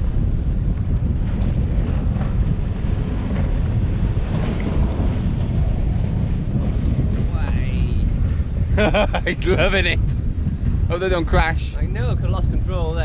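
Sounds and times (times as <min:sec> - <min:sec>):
waves rushing around yacht: 0:00.0 - 0:13.0
wind buffeting microphone: 0:00.0 - 0:13.0.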